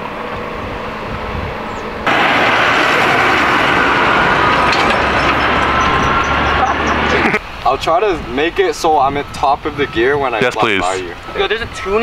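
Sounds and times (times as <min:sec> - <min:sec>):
wind and road noise from a car: 0:00.0 - 0:12.0.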